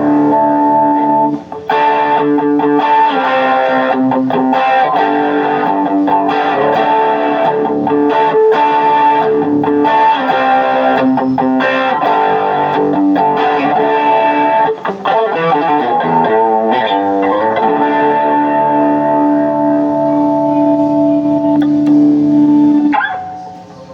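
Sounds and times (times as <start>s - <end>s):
overdriven electric guitar: 0.0s - 23.9s.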